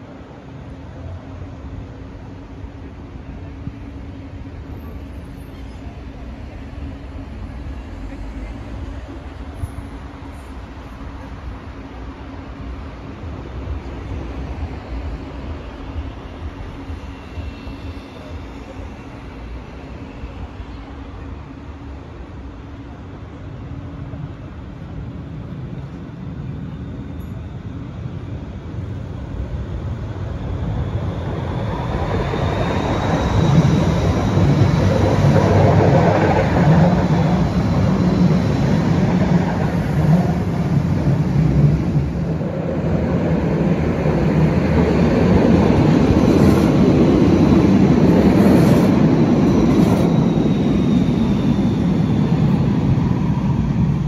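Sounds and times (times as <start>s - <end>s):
faint high whine: 0.0s - 54.0s
tram wheels rumbling on rails: 0.0s - 54.0s.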